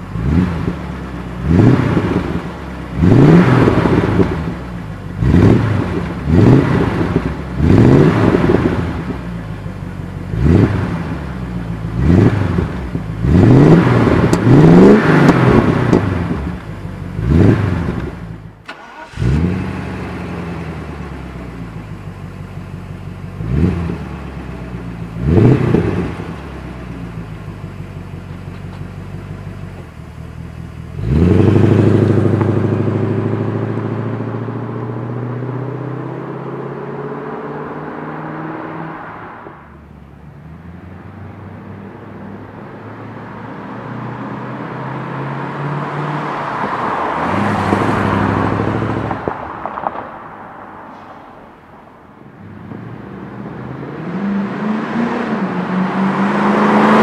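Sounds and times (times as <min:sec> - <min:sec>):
car engine revving and accelerating: 0:00.0 - 0:09.4, 0:10.2 - 0:21.8, 0:23.2 - 0:27.8, 0:30.8 - 0:39.8, 0:40.4 - 0:50.0, 0:52.4 - 0:57.0.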